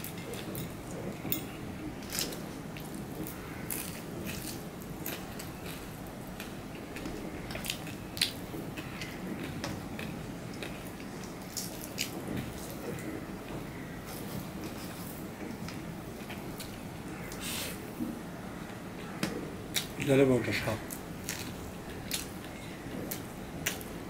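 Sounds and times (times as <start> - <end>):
person chewing food: 0.0 - 17.6, 20.9 - 24.0.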